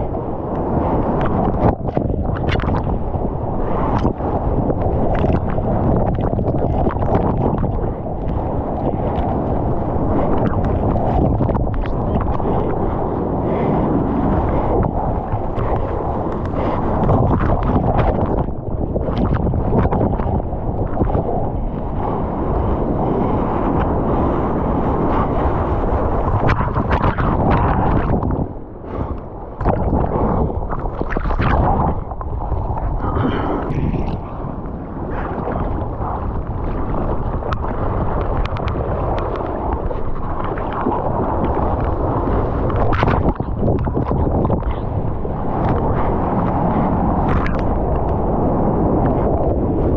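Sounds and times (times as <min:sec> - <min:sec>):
water hitting microphone: 0:00.0 - 0:22.6, 0:25.9 - 0:49.9
low rumble of waves: 0:00.0 - 0:49.9
surf splashing against a board: 0:00.0 - 0:49.9
whitewater rushing over board: 0:00.0 - 0:49.9.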